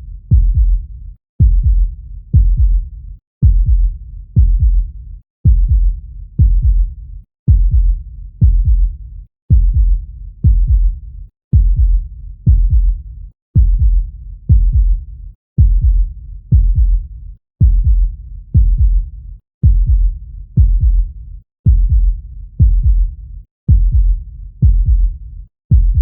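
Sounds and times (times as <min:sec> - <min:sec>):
heartbeat thumps: 0:00.0 - 0:13.0, 0:13.6 - 0:15.0, 0:15.6 - 0:21.1, 0:21.7 - 0:26.0.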